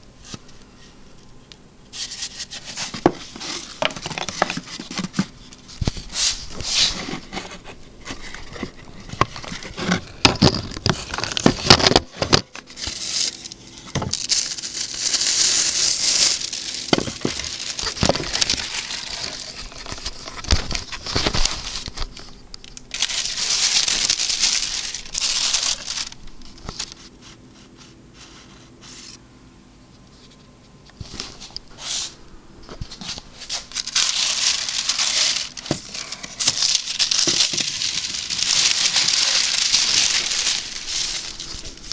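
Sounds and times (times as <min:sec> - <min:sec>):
plastic and paper crinkling: 0:02.0 - 0:29.2, 0:30.2 - 0:41.9.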